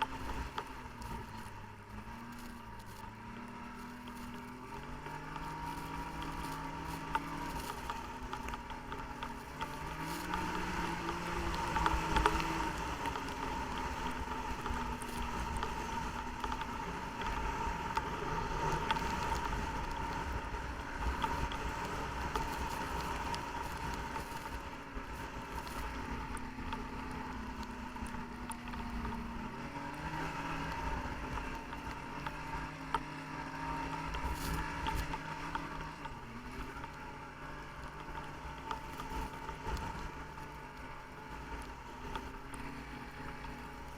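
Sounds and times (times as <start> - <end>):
snowmobile engine running: 0.0 - 43.9.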